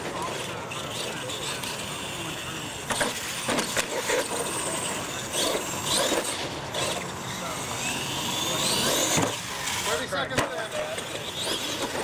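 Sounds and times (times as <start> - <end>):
toy truck motor bursts: 0.0 - 12.0.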